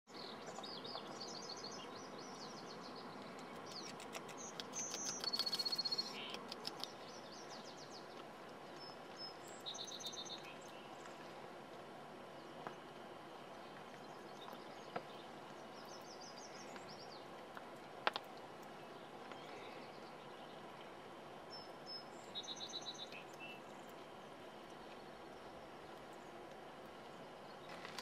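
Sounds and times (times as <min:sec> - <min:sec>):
songbirds chirping and trilling: 0:00.1 - 0:28.0
steady outdoor hiss: 0:00.1 - 0:28.0.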